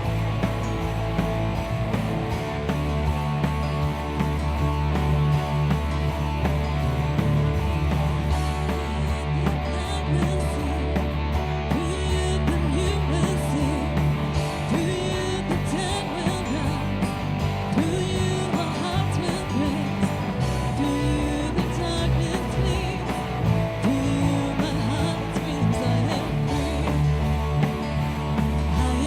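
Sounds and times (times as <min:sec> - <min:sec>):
rock band playing praise song: 0:00.0 - 0:29.0.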